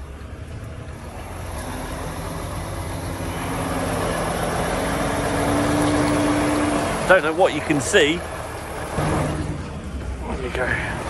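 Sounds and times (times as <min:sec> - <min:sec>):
lorry diesel engine reversing: 0:00.0 - 0:11.0.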